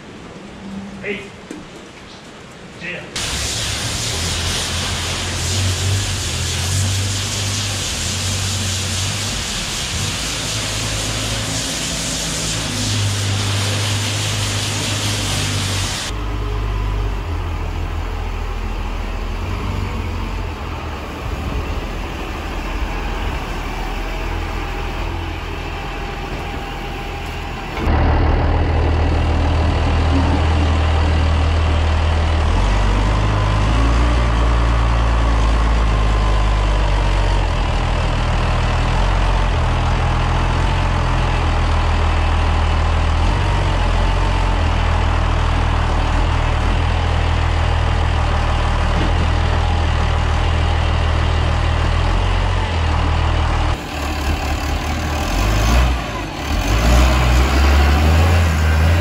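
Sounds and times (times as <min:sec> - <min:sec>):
tractor diesel engine drone: 0:03.2 - 0:59.0.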